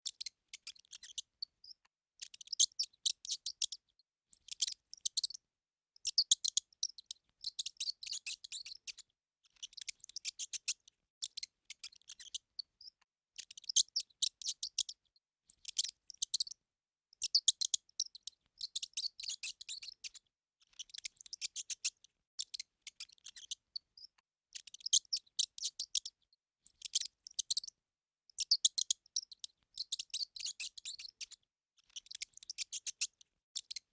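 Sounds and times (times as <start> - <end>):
hamster squeaking: 0.0 - 5.4, 6.0 - 16.6, 17.2 - 27.8, 28.4 - 33.9.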